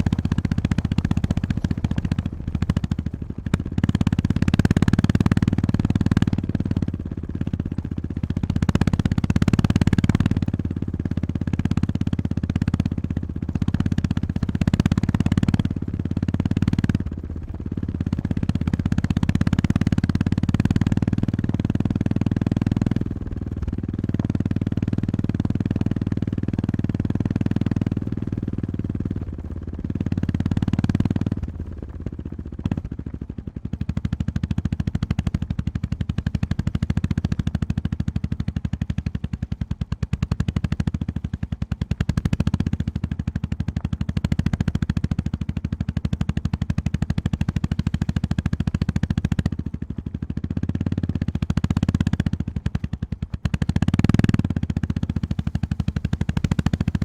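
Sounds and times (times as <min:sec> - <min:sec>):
single-cylinder motorcycle engine thumping: 0:00.0 - 0:57.0.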